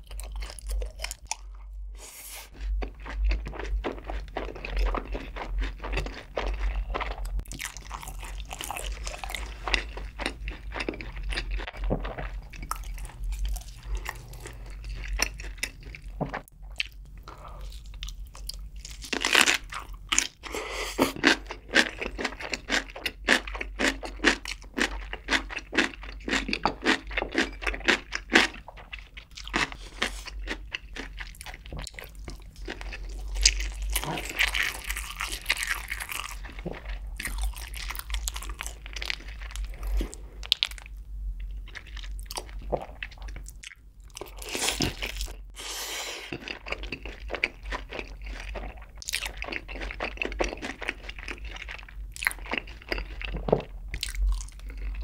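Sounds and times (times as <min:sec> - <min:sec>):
chewing fried chicken: 0:00.0 - 0:01.8, 0:02.5 - 0:55.0
crisp crunching chews: 0:02.5 - 0:55.0.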